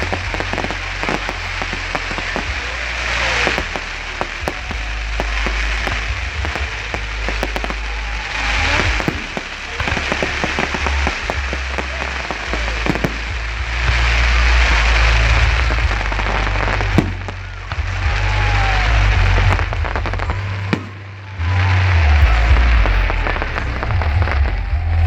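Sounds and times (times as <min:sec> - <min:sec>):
firework bang: 0:00.0 - 0:25.0
fireworks crackling and popping: 0:00.0 - 0:25.0
low rumble: 0:00.0 - 0:25.0.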